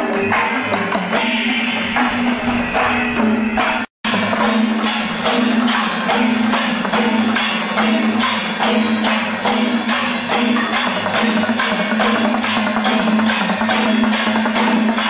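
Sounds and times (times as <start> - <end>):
drum and cymbal strokes: 0.0 - 15.0.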